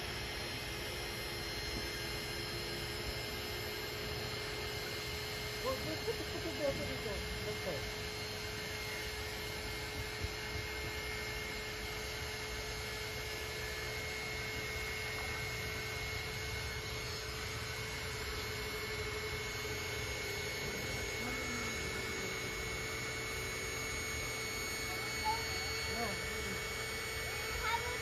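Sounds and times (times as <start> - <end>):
high-pitched whine: 0.0 - 28.0
motor hum: 0.0 - 28.0.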